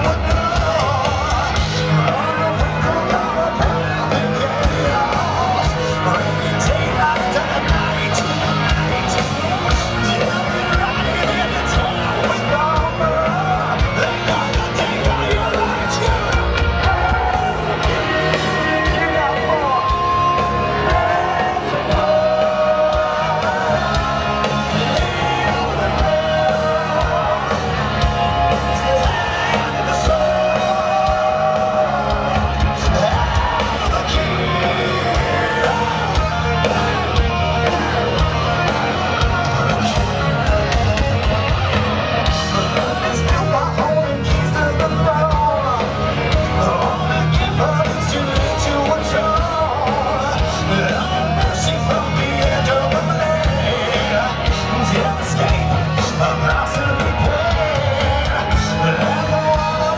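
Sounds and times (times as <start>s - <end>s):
heavy metal band playing live: 0.0s - 59.9s
person singing: 0.0s - 59.9s.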